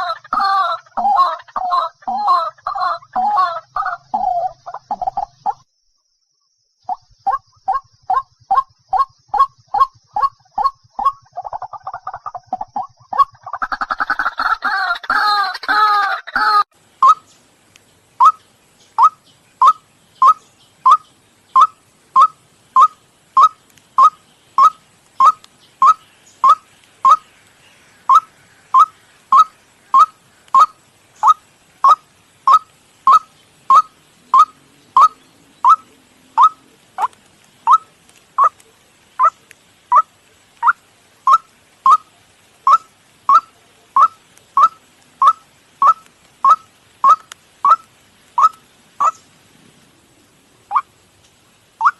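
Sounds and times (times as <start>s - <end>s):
waterhen call: 0.0s - 5.7s, 6.9s - 17.4s, 18.2s - 49.4s, 50.6s - 51.0s.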